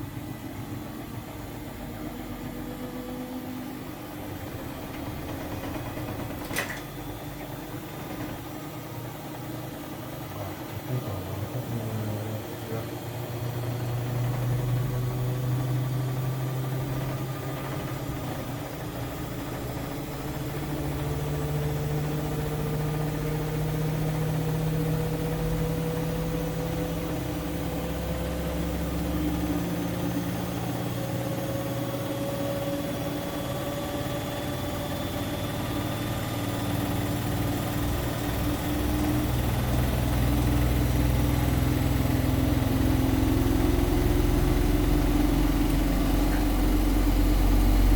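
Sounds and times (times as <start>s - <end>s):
washing machine motor whine: 0.0s - 47.9s.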